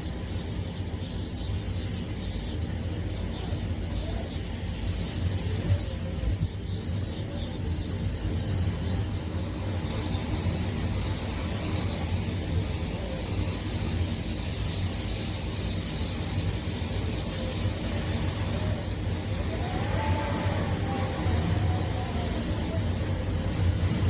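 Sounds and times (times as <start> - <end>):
strong wind blowing: 4.3 - 24.0.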